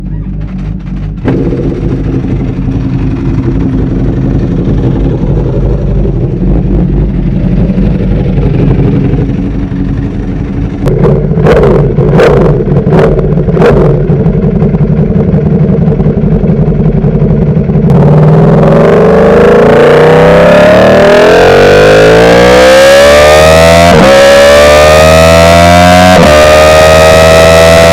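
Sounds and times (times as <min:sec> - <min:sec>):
motorcycle engine idling and revving: 0:00.0 - 0:27.9.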